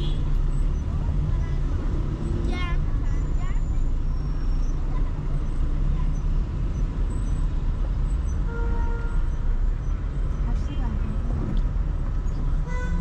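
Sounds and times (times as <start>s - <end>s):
car driving in traffic: 0.0s - 13.0s.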